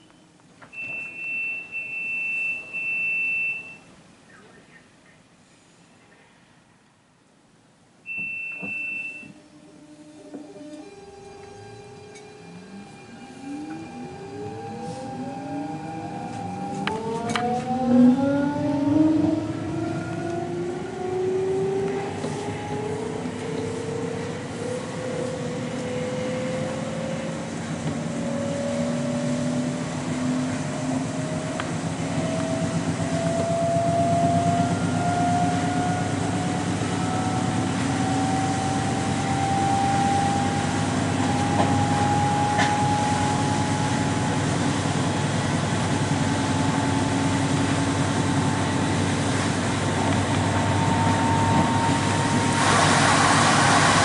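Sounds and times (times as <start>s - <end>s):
wheels rumbling on track: 8.0s - 54.0s
train motor whine rising: 8.1s - 54.0s.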